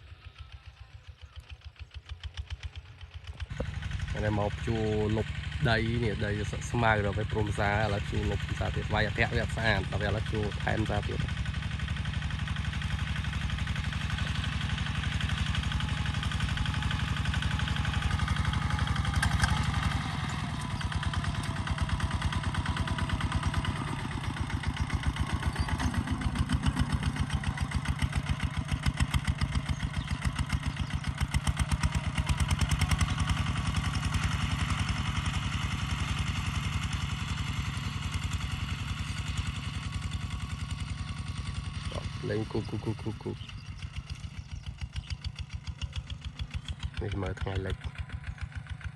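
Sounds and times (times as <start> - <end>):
tractor diesel engine chugging: 0.0 - 48.9.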